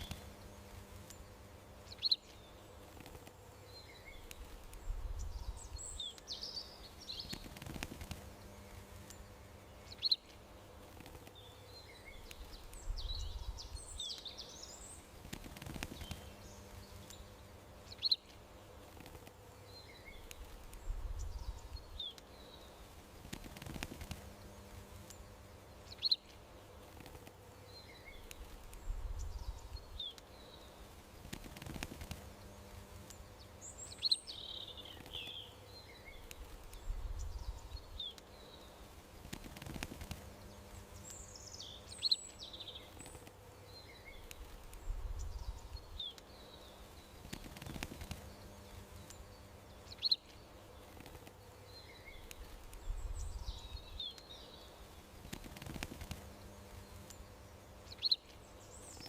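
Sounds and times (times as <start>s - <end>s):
small birds chirping: 0.0s - 59.0s
steady background hum: 0.0s - 59.0s.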